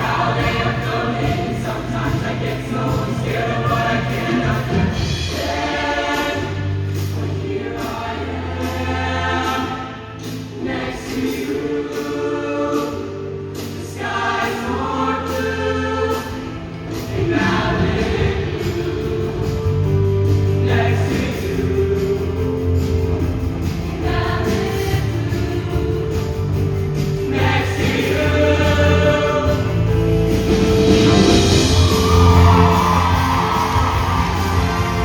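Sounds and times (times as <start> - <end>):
choir singing: 0.0 - 35.0.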